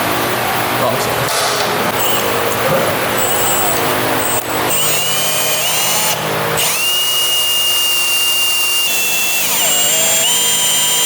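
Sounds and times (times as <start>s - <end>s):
power drill motor whine: 2.0s - 11.0s.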